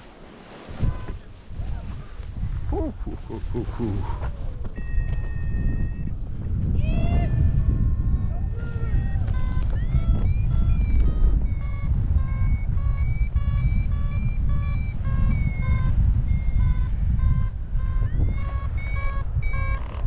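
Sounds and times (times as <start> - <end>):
wind rushing on microphone: 0.0 - 20.0.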